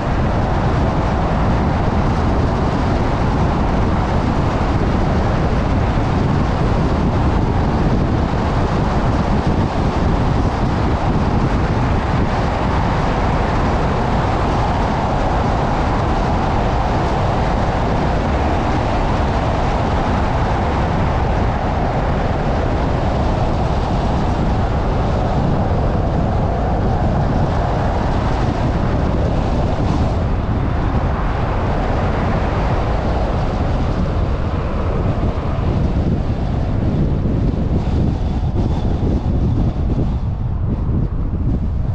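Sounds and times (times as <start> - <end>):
car road and tyre noise: 0.0 - 41.9.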